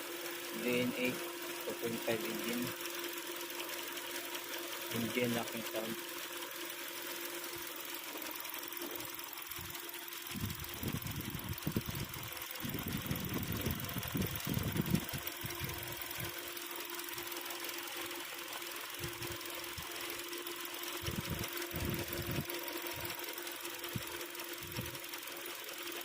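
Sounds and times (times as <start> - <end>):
engine running with rattling knock: 0.0 - 26.0.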